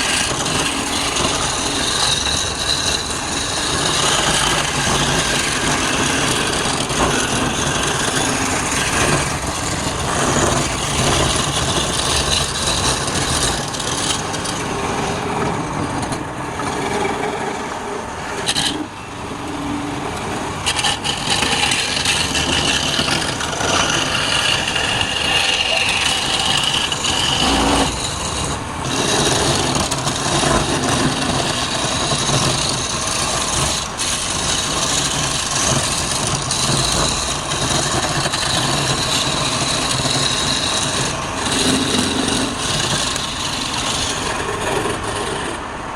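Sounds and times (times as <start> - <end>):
lathe motor running: 0.0 - 45.6
tool scraping spinning wood: 0.0 - 45.7.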